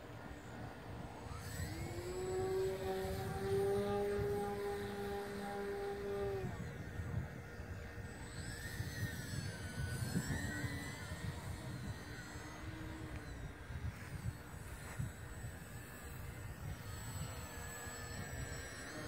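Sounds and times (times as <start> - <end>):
model plane motor whining: 0.0 - 19.0.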